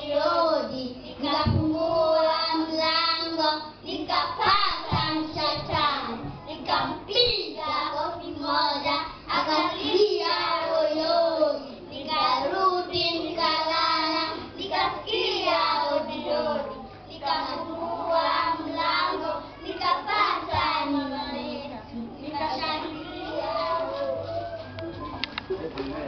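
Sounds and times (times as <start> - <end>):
young children singing: 0.0 - 25.3.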